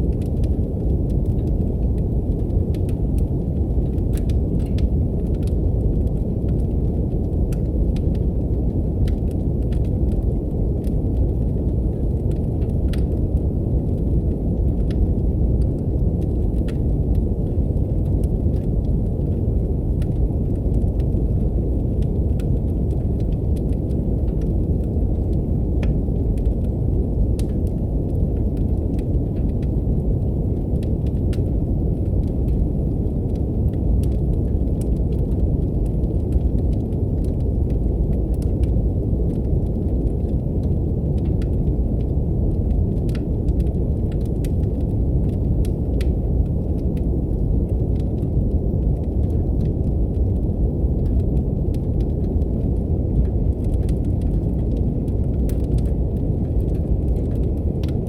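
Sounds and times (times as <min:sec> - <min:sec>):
brown noise hiss: 0:00.0 - 0:58.0
wood fire crackling: 0:00.0 - 0:58.0.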